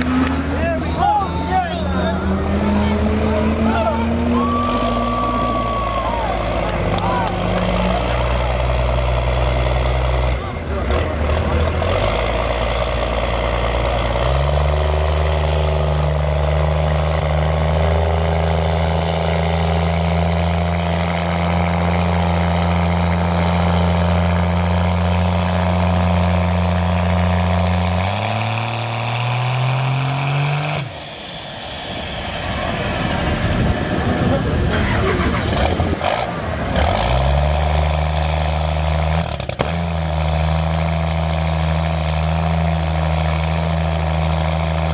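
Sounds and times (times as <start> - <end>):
vehicle engine: 0.0 - 44.9.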